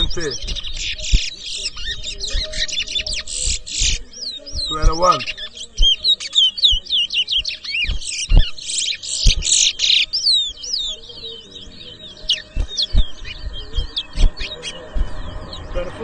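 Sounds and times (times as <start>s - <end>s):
soft low thumps: 0.0s - 6.1s, 6.7s - 9.7s, 12.2s - 16.0s
finches chirping and warbling: 0.0s - 16.0s
rasping bird trill: 0.0s - 16.0s.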